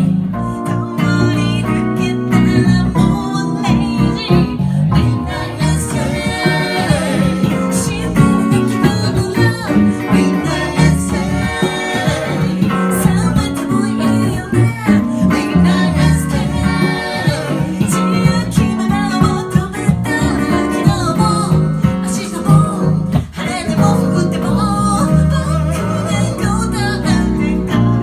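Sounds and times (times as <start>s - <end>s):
live band playing: 0.0s - 28.0s
woman singing: 0.4s - 28.0s.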